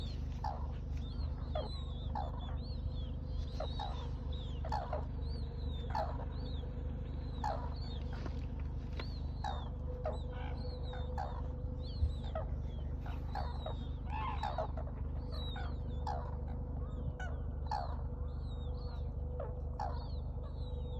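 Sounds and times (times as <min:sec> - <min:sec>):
cranes calling: 0:00.0 - 0:20.9
steady low hum: 0:00.0 - 0:20.9.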